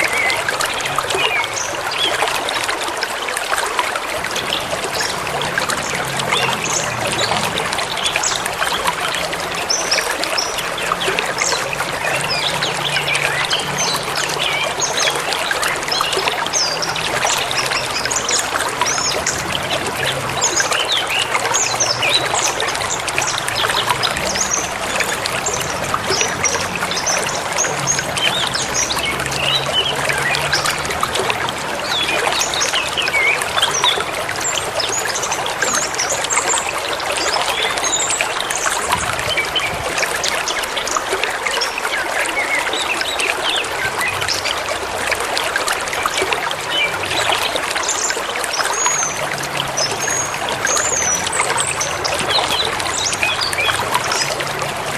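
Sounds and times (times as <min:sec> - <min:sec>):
river flowing: 0:00.0 - 0:54.9.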